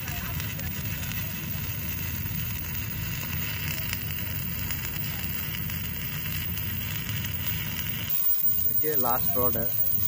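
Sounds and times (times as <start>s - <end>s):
welding arc crackling: 0.0s - 10.0s.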